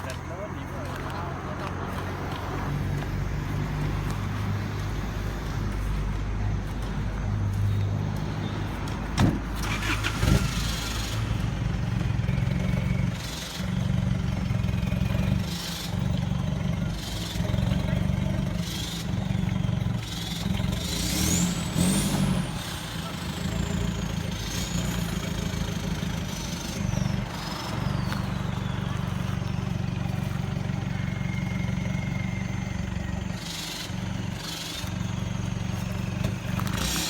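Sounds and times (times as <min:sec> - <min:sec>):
vehicle engine humming: 0:00.0 - 0:37.0.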